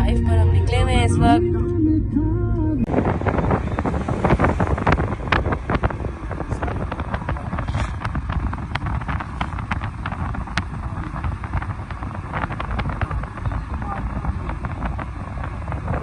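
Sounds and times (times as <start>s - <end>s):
vehicle engine and road noise: 0.0s - 16.0s
wind buffeting microphone: 2.7s - 16.0s.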